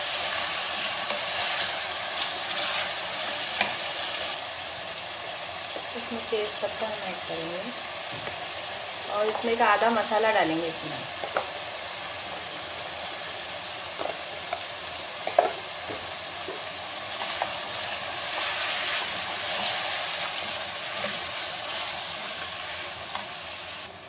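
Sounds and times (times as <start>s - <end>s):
meat sizzling in hot oil: 0.0s - 24.0s.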